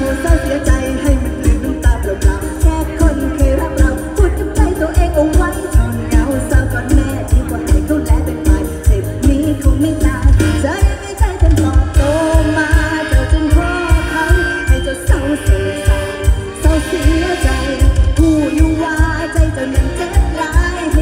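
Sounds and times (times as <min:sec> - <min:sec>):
live band music through loudspeakers: 0:00.0 - 0:21.0.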